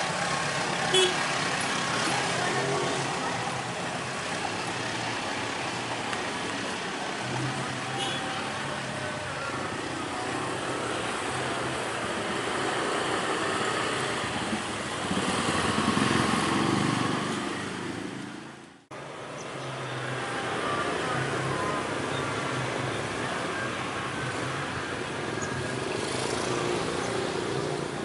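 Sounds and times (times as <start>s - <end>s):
vehicle engines humming: 0.0s - 28.0s.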